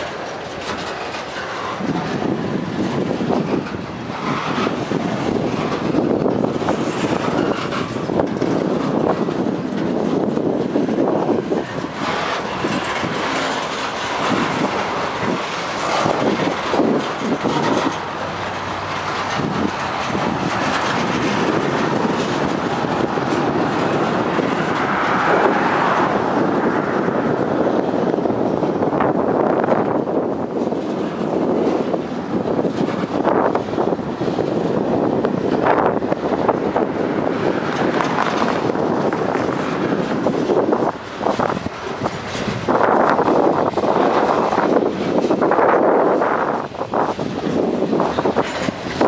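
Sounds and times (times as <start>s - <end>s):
freight train wheels rumbling: 0.0s - 49.0s
wind buffeting microphone: 0.0s - 49.0s.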